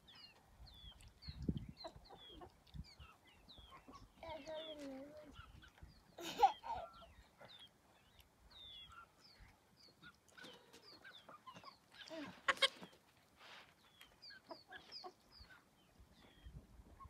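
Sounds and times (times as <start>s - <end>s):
chickens chirping: 0.0s - 17.0s.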